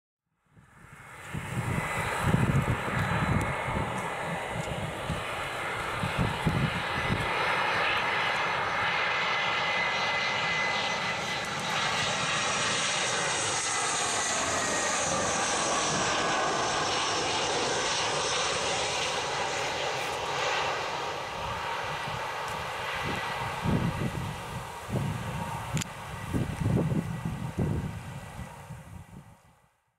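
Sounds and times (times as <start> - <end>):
jet plane passing overhead: 0.4 - 29.6.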